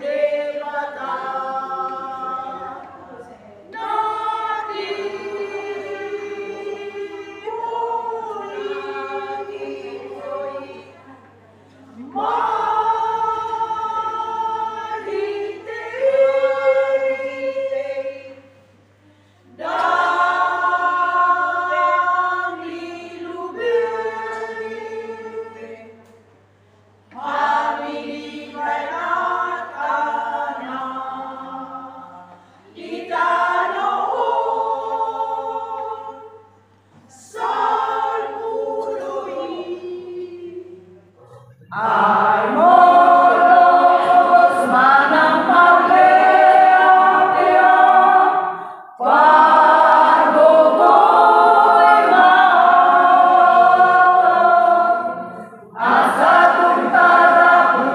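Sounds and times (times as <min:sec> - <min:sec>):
women's choir singing a hymn: 0:00.0 - 0:57.9.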